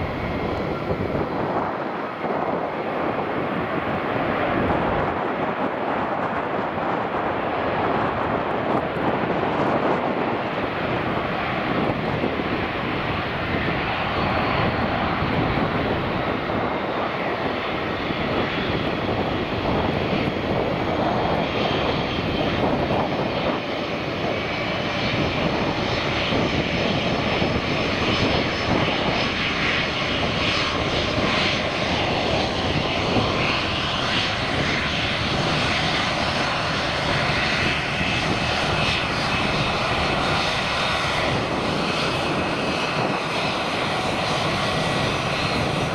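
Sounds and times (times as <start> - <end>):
jet engines running: 0.0 - 45.9.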